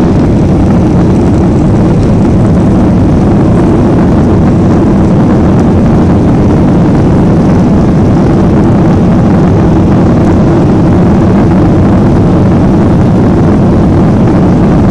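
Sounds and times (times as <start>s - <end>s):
jet cabin engine rumble: 0.0s - 14.9s.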